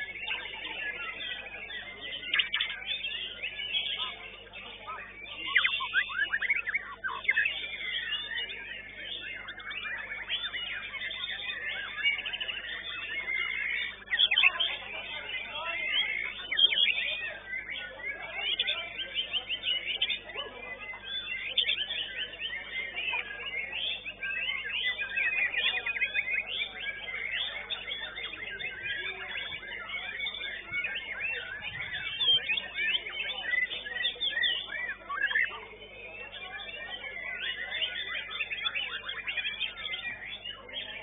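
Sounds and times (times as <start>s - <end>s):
birds singing whistles and trills: 0.0s - 41.0s.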